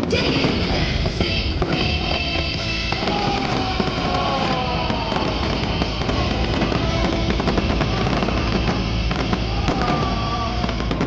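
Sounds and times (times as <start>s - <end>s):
fireworks bursting and crackling: 0.0s - 11.0s
loud show music: 0.0s - 11.0s.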